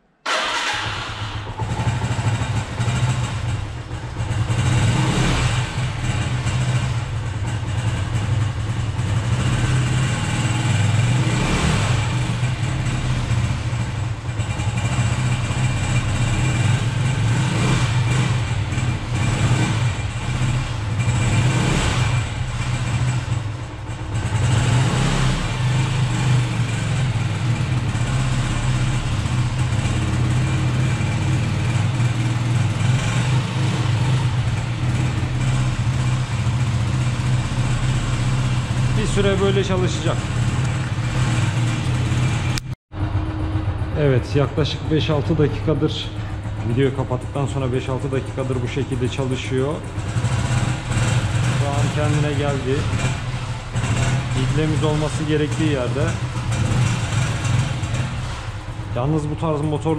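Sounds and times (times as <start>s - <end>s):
car engine idling: 0.2s - 59.9s.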